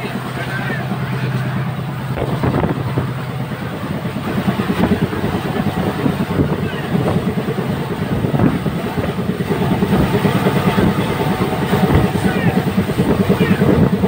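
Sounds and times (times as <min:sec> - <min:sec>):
train wheels rattling on track: 0:00.0 - 0:14.0.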